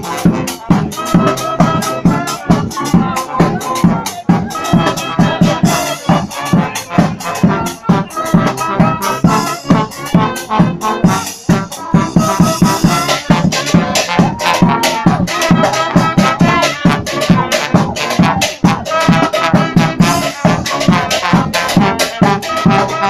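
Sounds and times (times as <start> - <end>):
horns playing: 0.0 - 23.0
steady drum beat: 0.0 - 23.0.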